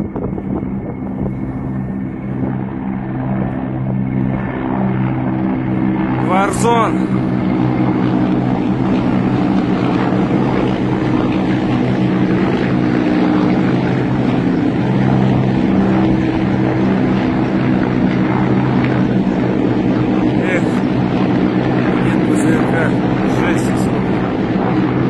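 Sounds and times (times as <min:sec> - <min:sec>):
helicopters flying overhead: 0:00.0 - 0:25.0.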